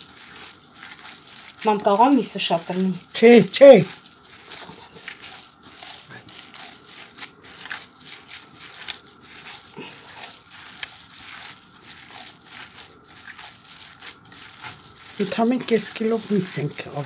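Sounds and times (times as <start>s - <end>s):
hands kneading wet minced meat: 0.0s - 17.0s.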